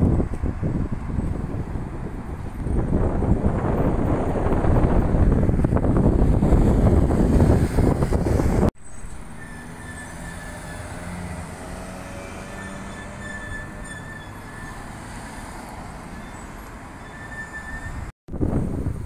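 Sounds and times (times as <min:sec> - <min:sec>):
engine and tyre hum: 0:00.0 - 0:19.0
wind and road noise from car: 0:00.0 - 0:19.0.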